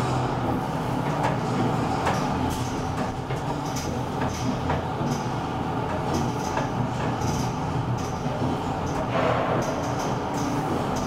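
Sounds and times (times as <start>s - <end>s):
elevator car rumbling on rails: 0.0s - 11.0s.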